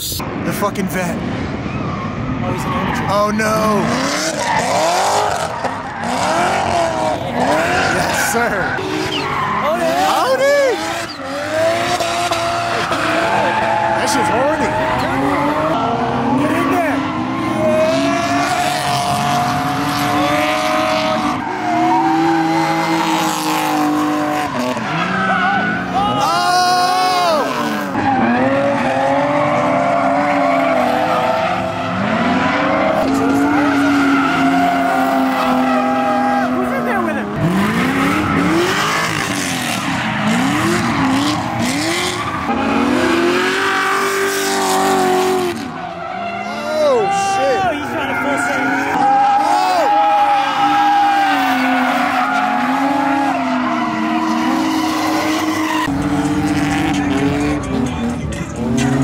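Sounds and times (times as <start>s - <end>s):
car engine revving high: 1.0s - 59.0s
tyres squealing: 1.9s - 56.0s.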